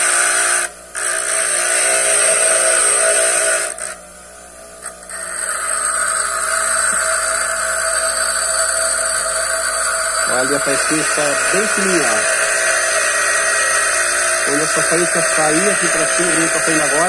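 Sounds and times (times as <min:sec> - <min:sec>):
bench grinder motor humming: 0:00.0 - 0:04.0, 0:04.8 - 0:17.0
drill bit grinding on wheel: 0:00.0 - 0:04.0, 0:04.8 - 0:17.0.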